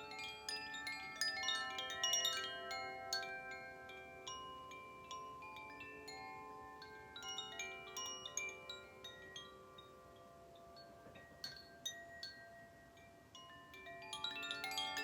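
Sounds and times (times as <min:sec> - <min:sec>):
wind chime tones ringing: 0:00.0 - 0:15.0.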